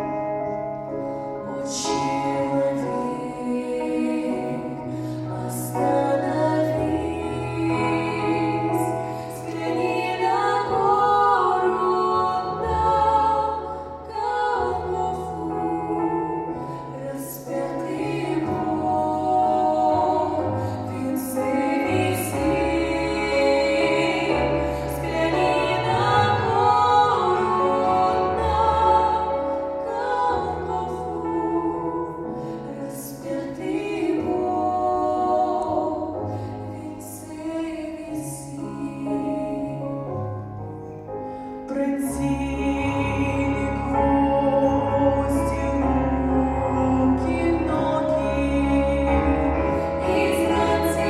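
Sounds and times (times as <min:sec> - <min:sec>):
choir singing with accompaniment: 0:00.0 - 0:51.0.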